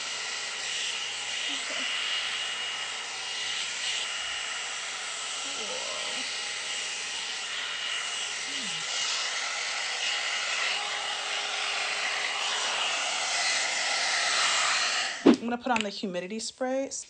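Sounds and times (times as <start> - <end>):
blow dryer fan hissing: 0.0 - 15.6.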